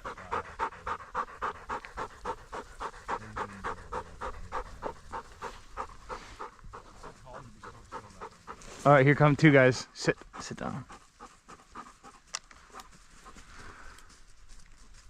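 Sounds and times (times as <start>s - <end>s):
dog panting fast: 0.0s - 15.0s.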